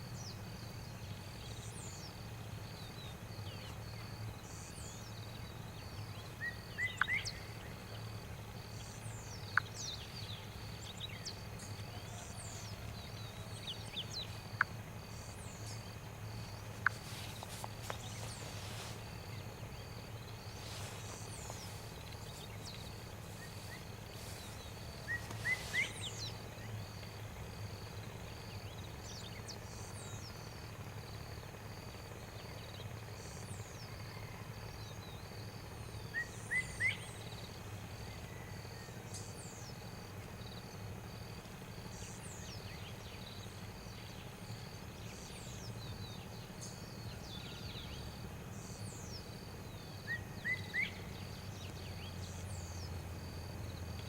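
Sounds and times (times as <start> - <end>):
insect chirping steadily: 0.0 - 54.0.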